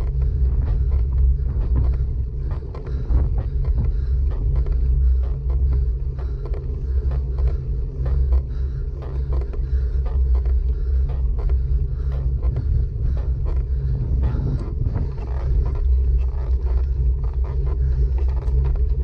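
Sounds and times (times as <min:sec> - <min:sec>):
tyre and wind rumble: 0:00.0 - 0:19.0.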